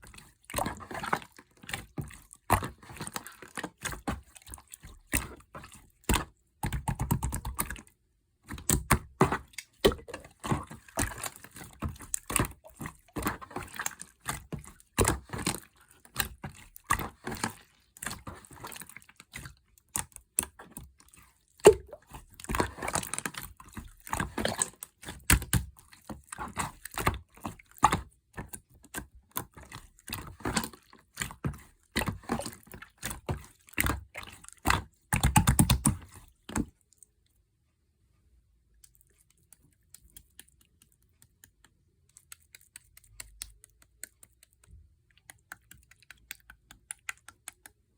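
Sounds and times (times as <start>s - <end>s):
slime squishing by hand: 0.0s - 37.5s, 38.5s - 47.9s.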